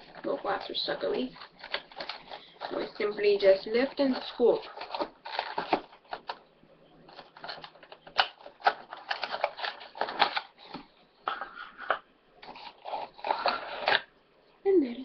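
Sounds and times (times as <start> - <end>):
packaging clicks and crinkles: 0.0 - 6.4, 7.0 - 14.1.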